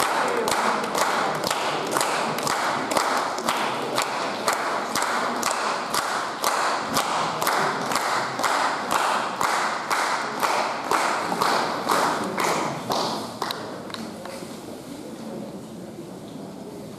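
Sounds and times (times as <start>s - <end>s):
general applause: 0.0s - 14.1s
audience clapping in unison: 0.0s - 14.4s.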